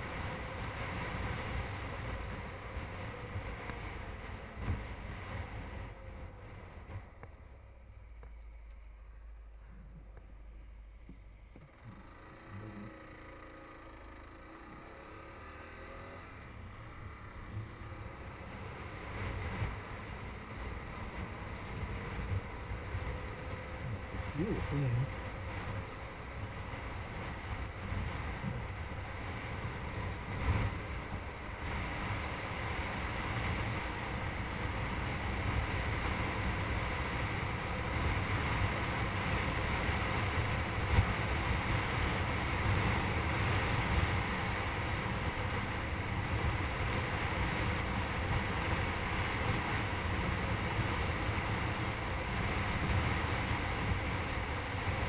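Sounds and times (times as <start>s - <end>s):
motorcycle engine and tyres: 0.0s - 55.0s.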